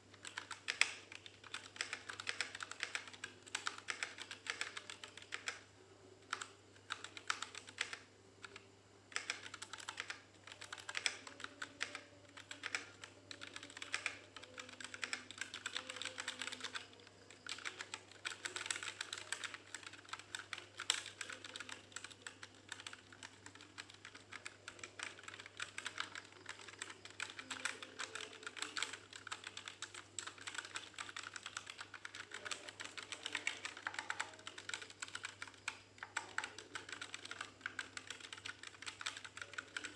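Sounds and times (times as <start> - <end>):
mechanical keyboard typing: 0.0 - 5.7, 6.3 - 39.9.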